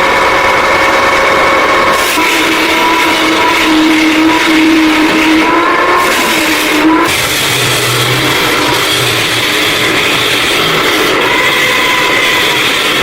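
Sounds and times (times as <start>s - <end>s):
power tool motor grinding: 0.0s - 13.0s.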